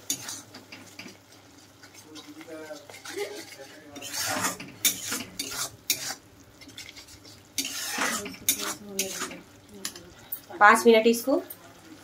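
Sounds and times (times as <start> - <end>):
spatula scraping a pan: 0.0 - 10.4
spice paste frying: 0.0 - 12.0.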